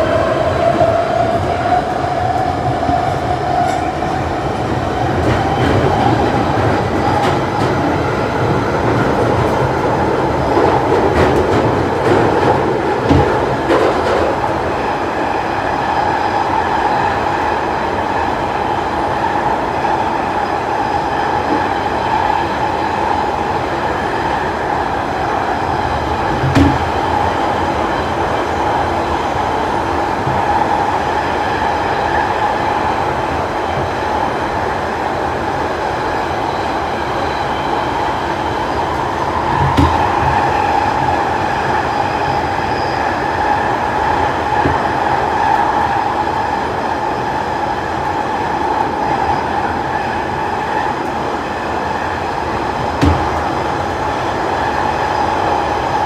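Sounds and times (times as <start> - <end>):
train rumbling through tunnel: 0.0 - 56.0.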